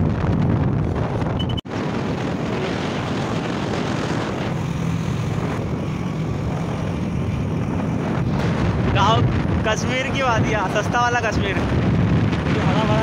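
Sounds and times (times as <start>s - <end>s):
vehicle engine drone: 0.0s - 13.0s
wind on microphone: 0.0s - 13.0s.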